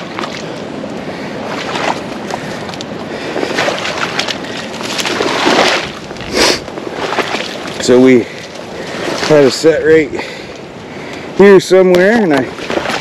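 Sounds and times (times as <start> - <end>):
water sloshing: 0.0 - 11.4, 12.0 - 13.0.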